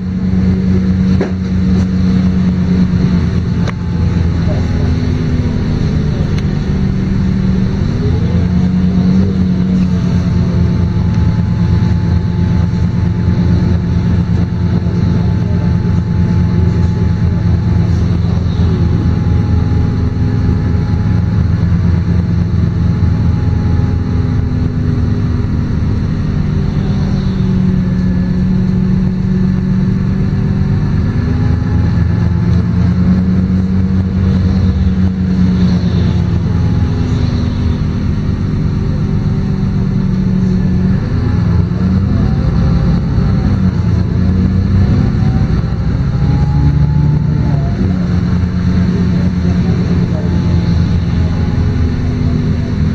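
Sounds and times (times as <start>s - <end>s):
bus diesel engine running: 0.0s - 52.9s.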